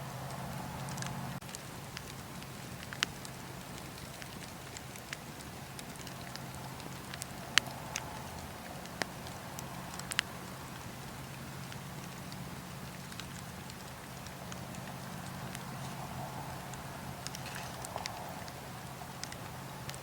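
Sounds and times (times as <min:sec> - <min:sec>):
fire hissing: 0:00.0 - 0:20.0
wood fire crackling and popping: 0:00.0 - 0:20.0.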